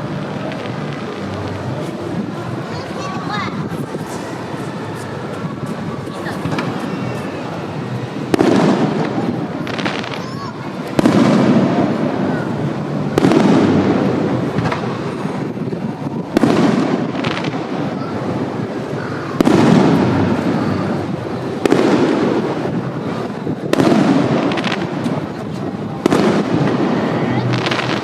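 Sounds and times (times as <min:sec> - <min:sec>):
fireworks bursting with booms: 0:00.0 - 0:28.0.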